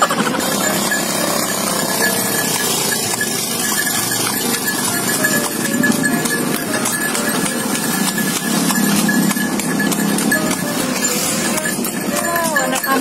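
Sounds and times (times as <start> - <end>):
horse hooves clip-clopping on asphalt: 0.0 - 13.0
motor traffic passing: 0.0 - 13.0.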